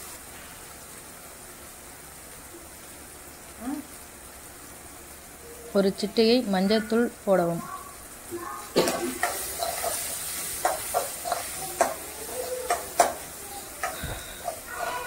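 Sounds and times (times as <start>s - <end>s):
faint sizzle of frying: 0.0s - 15.0s.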